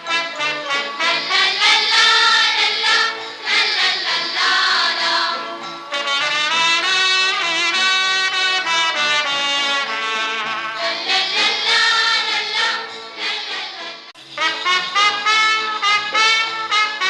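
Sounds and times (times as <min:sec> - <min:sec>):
children's choir singing: 0:00.0 - 0:08.6, 0:09.9 - 0:16.4
brass passage: 0:00.0 - 0:13.0, 0:13.7 - 0:17.0.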